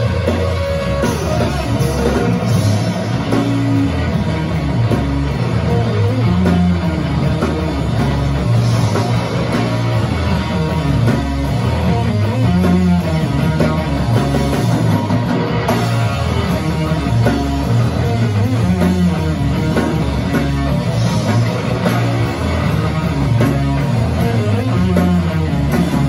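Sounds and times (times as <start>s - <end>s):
distorted electric guitars: 0.0s - 26.0s
drums: 0.0s - 26.0s
heavy bass line: 0.0s - 26.0s.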